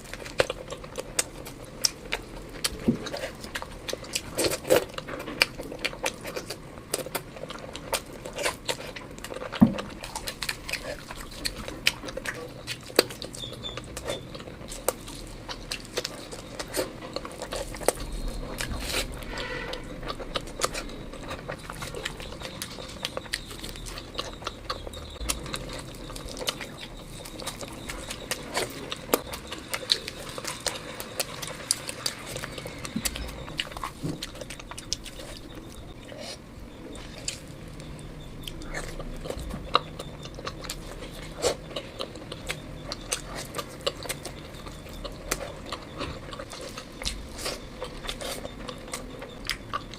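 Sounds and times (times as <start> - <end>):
wet chewing and lip-smacking: 0.0 - 49.9.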